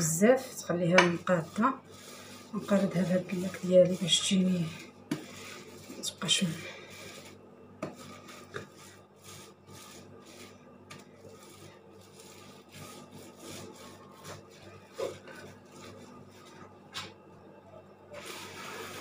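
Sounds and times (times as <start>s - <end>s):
rolling pin rubbing on plastic film: 0.4s - 16.8s, 18.2s - 19.0s.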